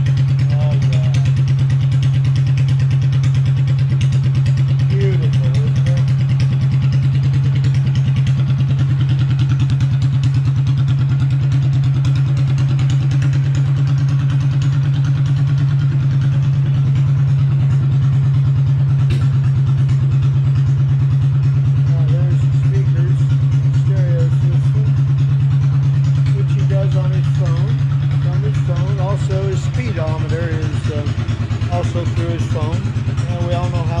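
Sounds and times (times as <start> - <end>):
small gasoline engine idling: 0.0 - 34.0.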